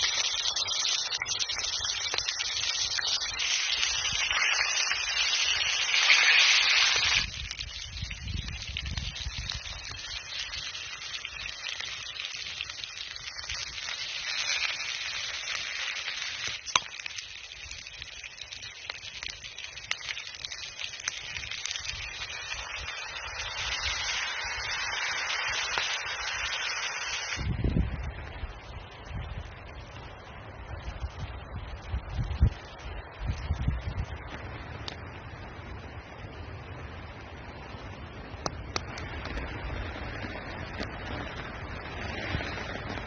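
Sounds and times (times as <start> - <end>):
campfire crackling and hissing: 0.0 - 43.0.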